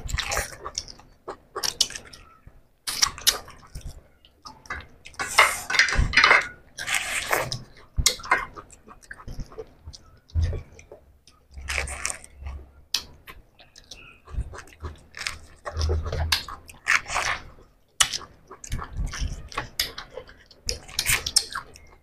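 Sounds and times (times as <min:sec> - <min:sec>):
chewing pulp: 0:00.0 - 0:05.4, 0:06.7 - 0:22.0
people eating juicy fruit: 0:00.0 - 0:22.0.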